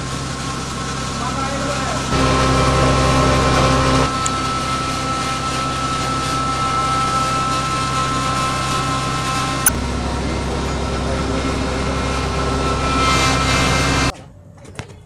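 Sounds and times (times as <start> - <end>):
electric chopper motor whining: 0.0 - 14.1.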